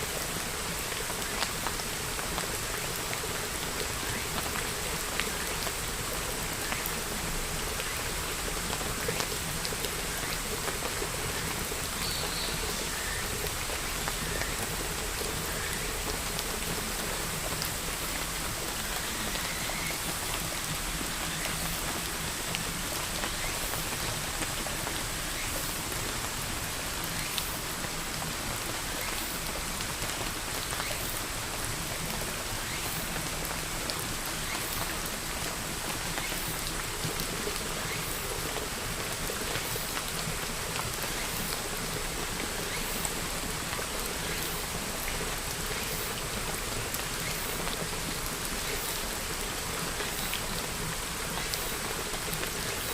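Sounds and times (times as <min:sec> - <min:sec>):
raindrops ticking on a surface: 0:00.0 - 0:52.9
steady rain hiss: 0:00.0 - 0:52.9.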